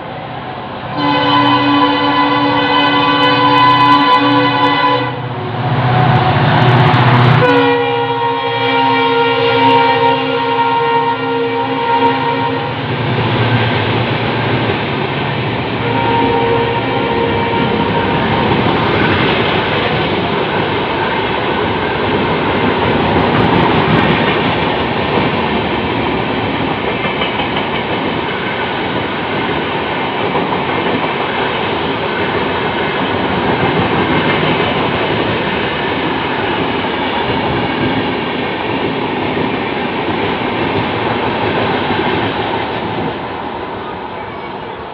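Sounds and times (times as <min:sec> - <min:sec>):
train rumbling over track: 0:00.0 - 0:44.9.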